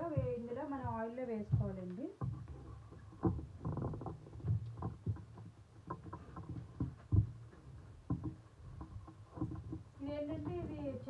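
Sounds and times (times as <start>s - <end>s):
light knocks and thuds: 0.0s - 11.0s.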